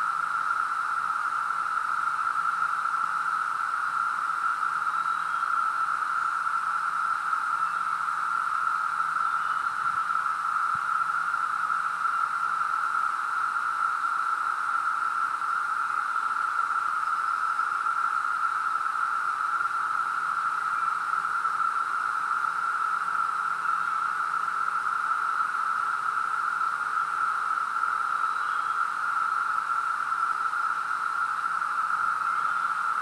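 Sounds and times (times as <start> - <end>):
cicadas droning: 0.0 - 33.0.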